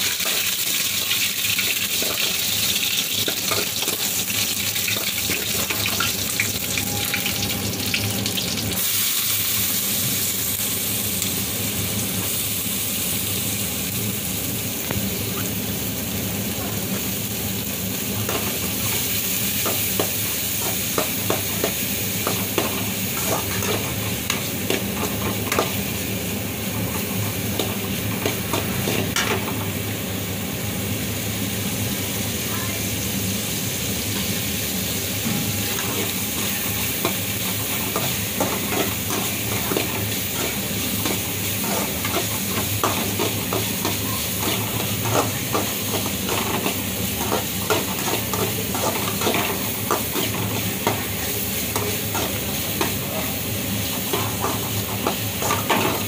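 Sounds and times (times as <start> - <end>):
onions sizzling in hot oil: 0.0 - 56.0.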